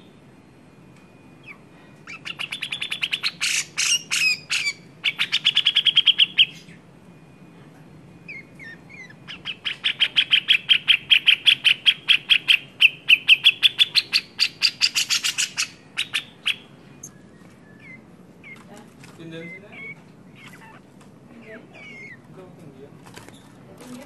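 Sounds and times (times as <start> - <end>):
soft bird chirps: 1.2 - 7.4, 8.1 - 22.3
bulbul agitated chattering call: 1.4 - 6.8, 8.3 - 22.3.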